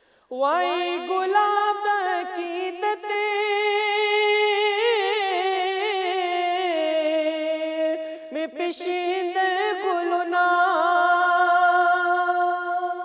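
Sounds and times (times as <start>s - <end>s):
man singing unaccompanied: 0.3s - 13.0s.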